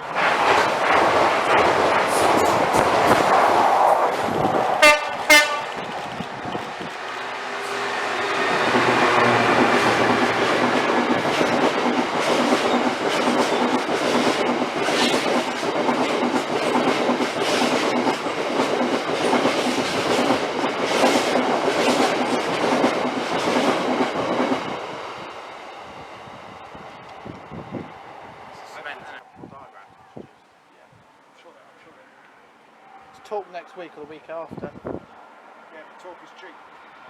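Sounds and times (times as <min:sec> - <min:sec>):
train passing at speed: 0:00.0 - 0:30.3, 0:31.0 - 0:37.0.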